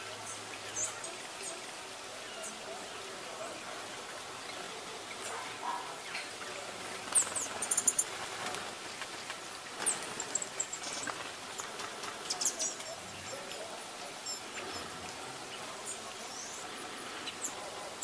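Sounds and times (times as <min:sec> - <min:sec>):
songbirds calling: 0:00.0 - 0:18.0
steady outdoor hiss: 0:00.0 - 0:18.0.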